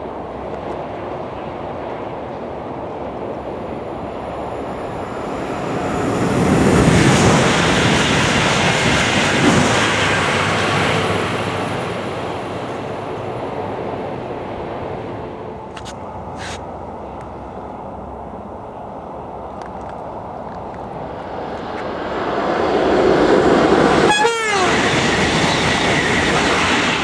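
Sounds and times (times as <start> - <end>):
high-speed train passing: 0.0 - 27.0.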